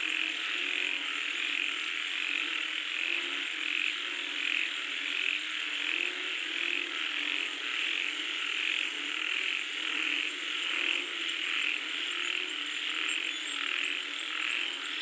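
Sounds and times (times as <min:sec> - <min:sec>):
chorus of frogs croaking: 0:00.0 - 0:15.0.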